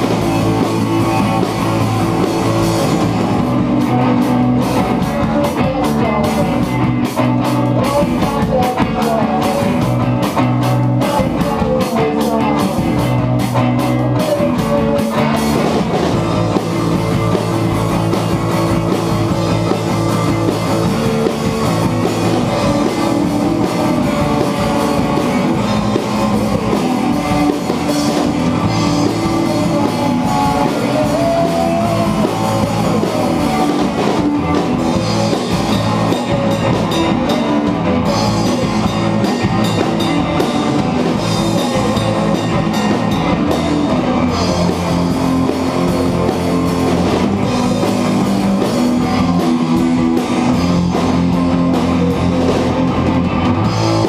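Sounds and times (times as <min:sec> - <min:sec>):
live instrumental rock: 0:00.0 - 0:54.0.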